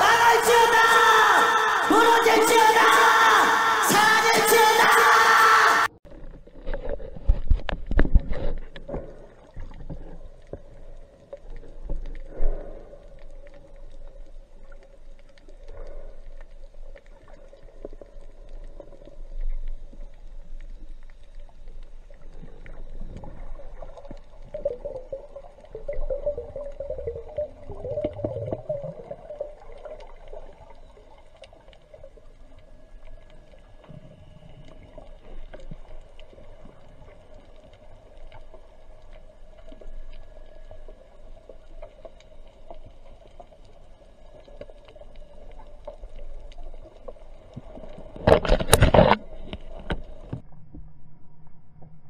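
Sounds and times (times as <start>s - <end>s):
low underwater hum: 5.9s - 52.0s.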